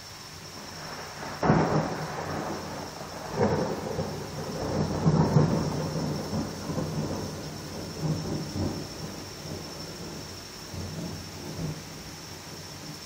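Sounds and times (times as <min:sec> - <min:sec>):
thunder rumbling: 0:00.5 - 0:13.0.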